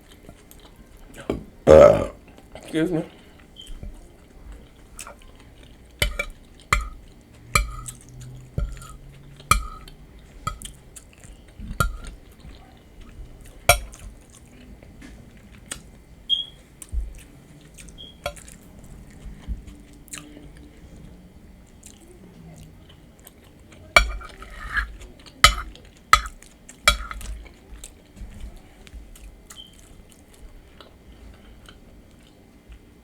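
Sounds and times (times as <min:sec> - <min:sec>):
chewing crunchy nachos: 0:00.0 - 0:33.0.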